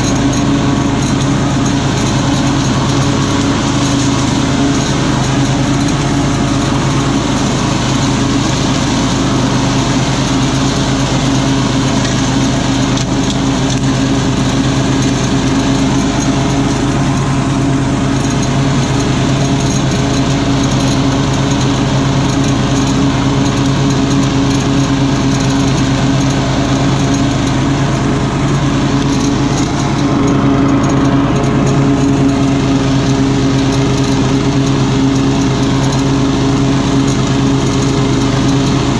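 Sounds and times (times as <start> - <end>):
lawn mower engine mowing: 0.0 - 38.9.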